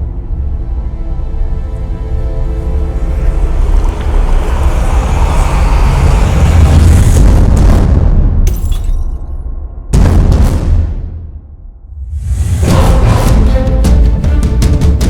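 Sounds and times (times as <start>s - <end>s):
low rumble with rushing hiss: 0.0s - 8.4s, 10.0s - 15.0s.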